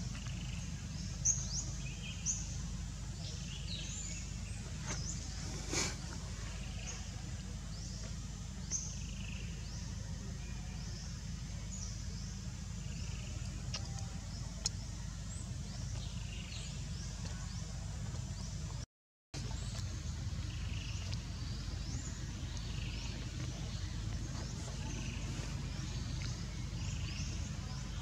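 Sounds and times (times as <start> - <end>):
birds chirping: 0.0 - 18.8, 19.4 - 28.0
steady low rumble: 0.0 - 18.8, 19.4 - 28.0.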